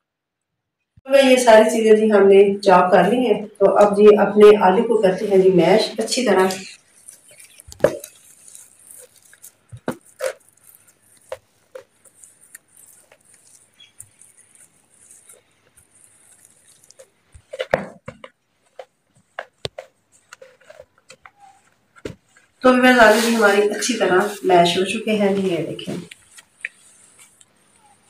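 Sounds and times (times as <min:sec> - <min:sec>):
potato masher mashing potatoes: 0:01.2 - 0:28.0.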